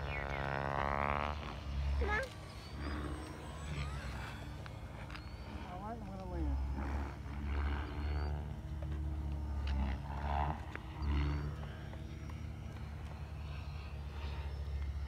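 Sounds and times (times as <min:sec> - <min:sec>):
model plane motor whine: 0:00.0 - 0:15.0.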